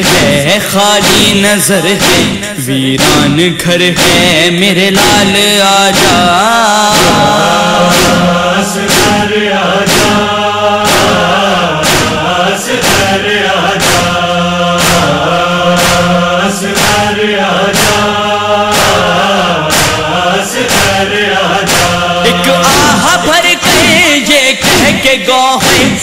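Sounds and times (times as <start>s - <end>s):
chorus chanting: 0.0s - 26.0s
steady drum beat: 0.0s - 26.0s.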